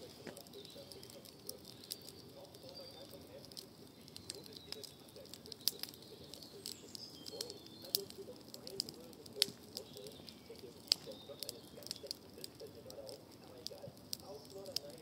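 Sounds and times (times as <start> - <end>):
campfire crackling and popping: 0.0 - 15.0
fire hissing: 0.0 - 15.0.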